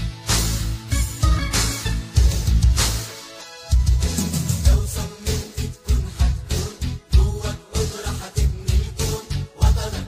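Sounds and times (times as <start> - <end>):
music with heavy bass beat: 0.0 - 10.0.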